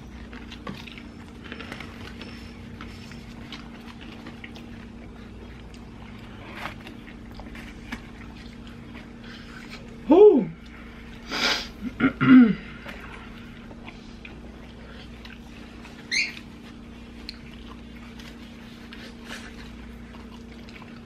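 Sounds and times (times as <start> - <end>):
people chewing: 0.0 - 21.0
steady low hum: 0.0 - 21.0.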